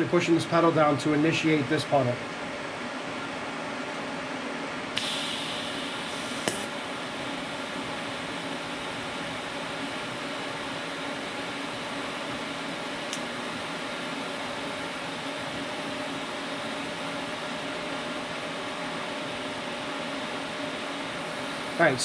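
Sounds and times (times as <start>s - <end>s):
mechanical hum with hiss: 0.0s - 22.0s.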